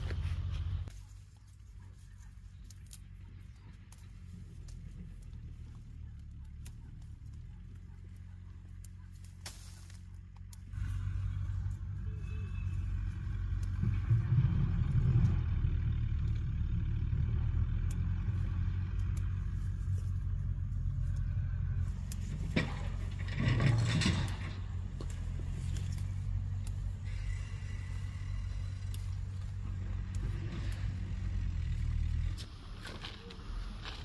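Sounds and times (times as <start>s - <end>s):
low motor rumble: 0.0s - 34.0s.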